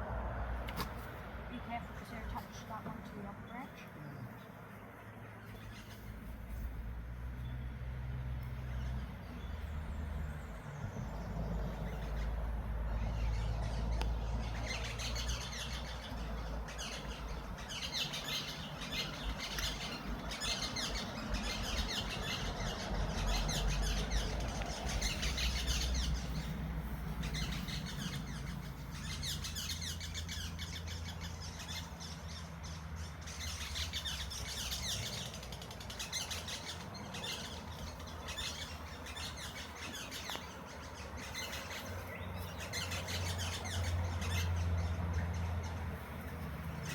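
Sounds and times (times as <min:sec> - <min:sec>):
birds chirping and calling: 0:01.6 - 0:06.8, 0:08.4 - 0:46.9.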